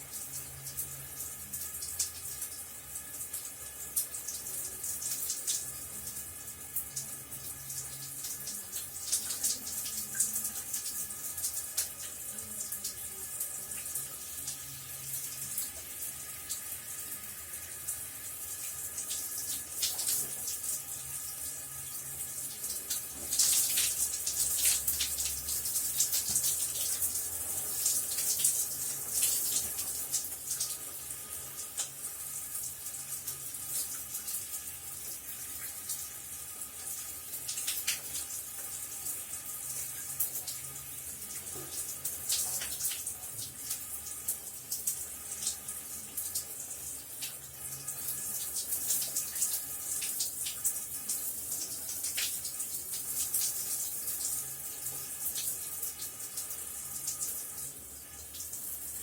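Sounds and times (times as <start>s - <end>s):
shower water splattering: 0.0s - 59.0s.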